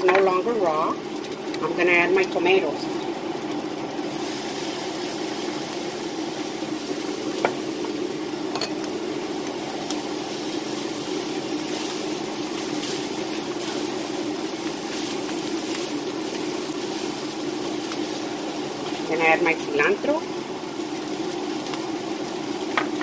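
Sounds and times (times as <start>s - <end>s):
meat sizzling in skillet: 0.0s - 23.0s.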